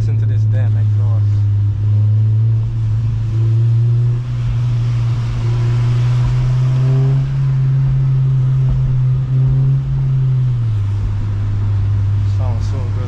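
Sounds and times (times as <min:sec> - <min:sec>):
car engine droning while driving: 0:00.0 - 0:13.0.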